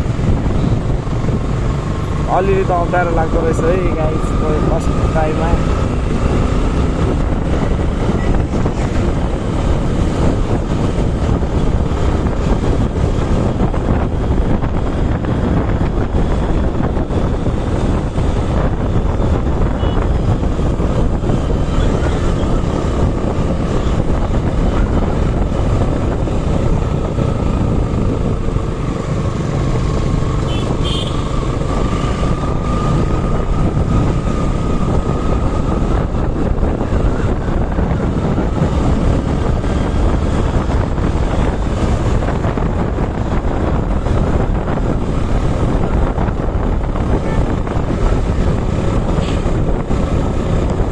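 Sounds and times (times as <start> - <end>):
motorcycle running: 0.0 - 50.9
wind rushing over microphone: 0.0 - 50.9.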